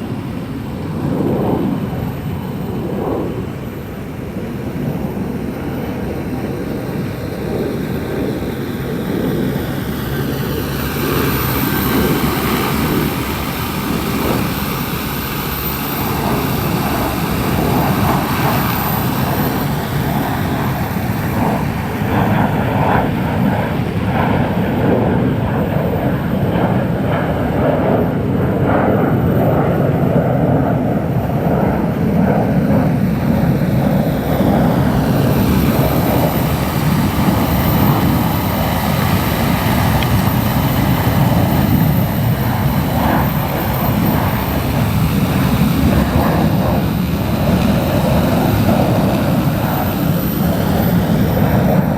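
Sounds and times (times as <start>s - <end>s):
drone rotors droning: 0.0s - 51.9s.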